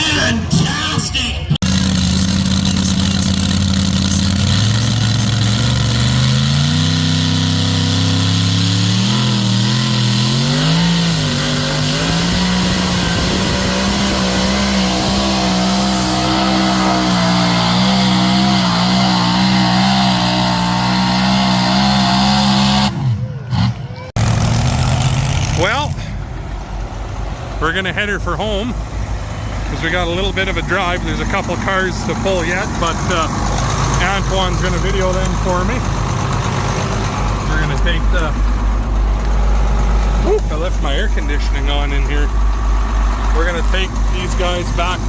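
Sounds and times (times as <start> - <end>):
tractor engine under load: 1.6 - 22.8, 24.2 - 45.0.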